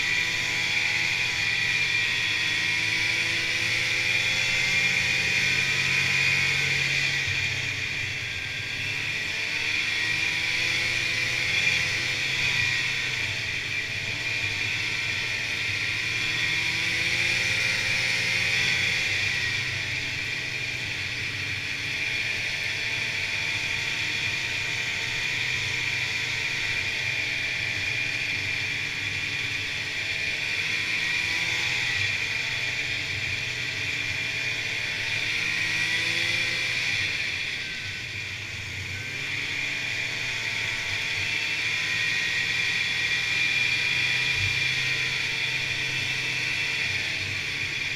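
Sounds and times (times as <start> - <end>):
snowmobile engine running: 0.0 - 47.9.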